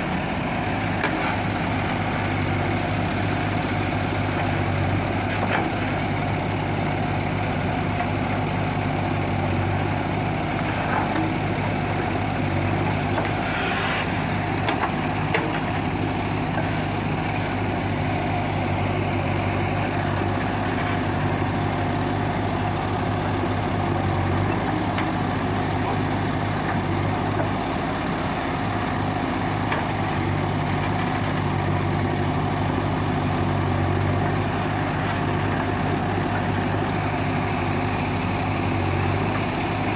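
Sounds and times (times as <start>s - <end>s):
backhoe digging soil: 0.0s - 39.9s
diesel engine under hydraulic load: 0.0s - 39.9s.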